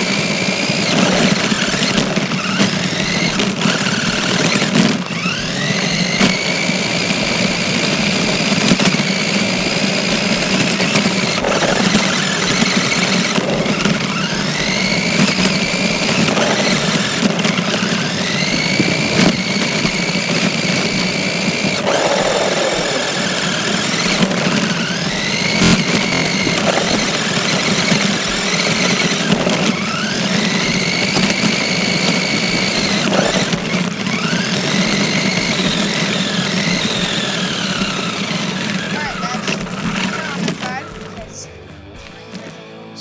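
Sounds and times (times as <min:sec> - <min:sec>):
electric motor whining: 0:00.0 - 0:43.0
rc car rattling: 0:00.0 - 0:43.0.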